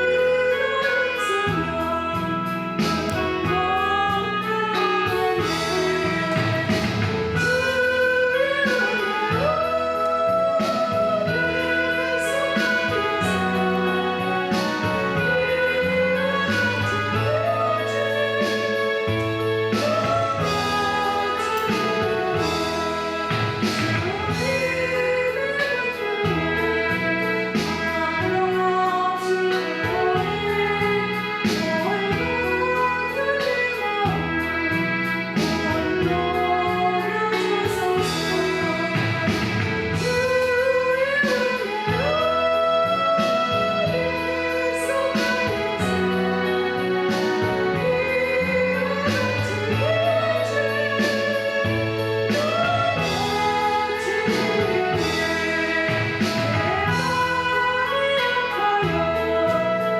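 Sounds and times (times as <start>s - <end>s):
instrumental accompaniment: 0.0s - 59.9s
woman singing with vibrato: 0.0s - 59.9s.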